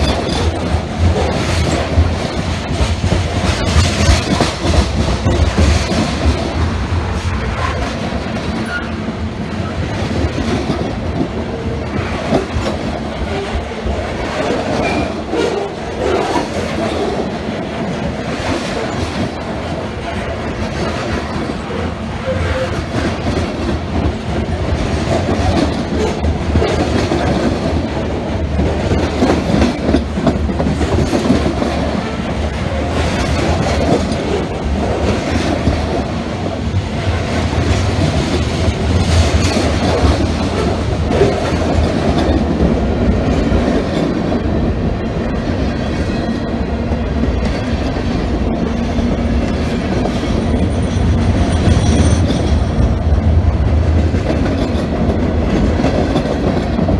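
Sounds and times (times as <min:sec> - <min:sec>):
steel wheels rumbling on rail: 0:00.0 - 0:56.9
wheels clacking on rail joints: 0:00.0 - 0:56.9.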